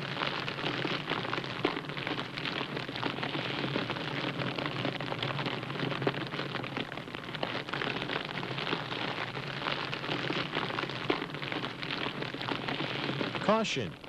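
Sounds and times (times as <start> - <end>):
welding arc crackling and hissing: 0.0 - 14.0.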